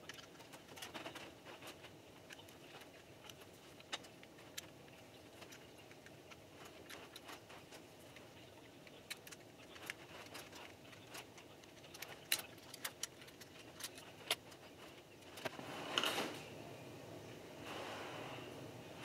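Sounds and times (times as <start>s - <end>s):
handling clatter of parts: 0.0s - 16.4s.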